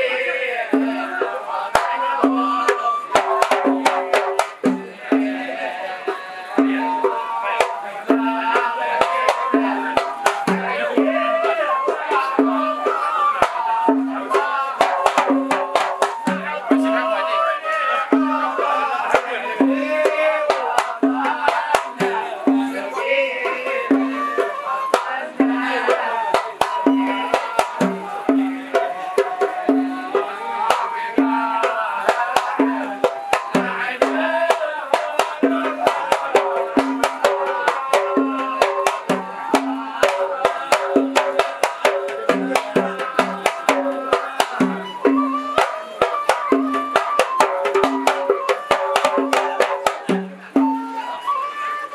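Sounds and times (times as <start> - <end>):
men chanting together: 0.0 - 51.2
low drum beats: 0.7 - 17.2, 18.1 - 50.8.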